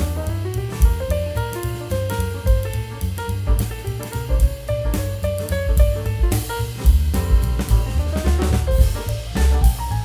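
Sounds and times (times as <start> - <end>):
jazzy background music: 0.0 - 10.0.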